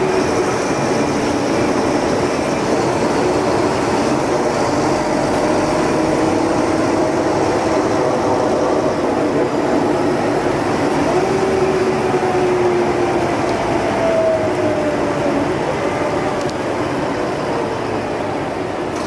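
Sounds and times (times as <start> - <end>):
bus engine drone: 0.0 - 19.0
road noise: 0.0 - 19.0
whining tone: 0.0 - 19.0.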